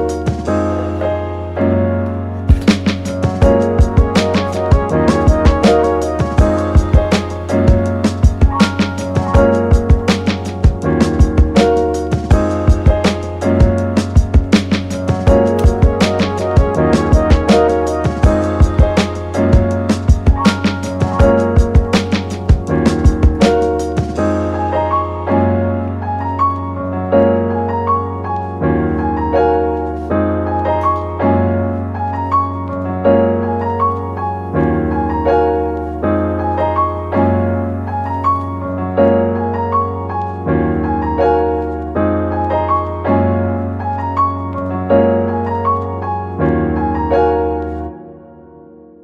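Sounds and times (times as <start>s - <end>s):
piano instrumental music: 0.0s - 49.0s.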